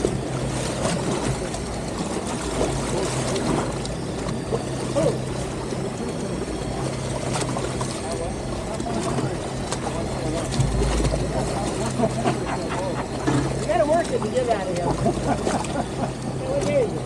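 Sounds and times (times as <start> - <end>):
boat engine humming: 0.0 - 17.0
water splashing around hull: 0.0 - 17.0.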